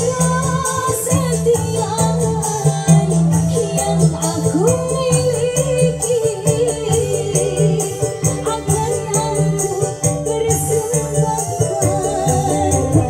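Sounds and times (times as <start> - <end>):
heavy bass notes: 0.0 - 13.0.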